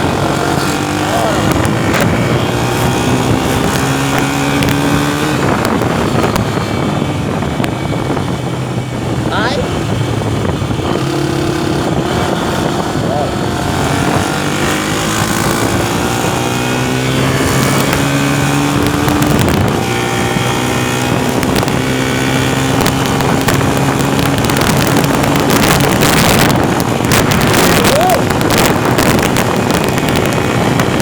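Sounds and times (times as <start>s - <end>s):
vehicle engine cruising: 0.0s - 31.0s
wind buffeting microphone: 0.0s - 31.0s.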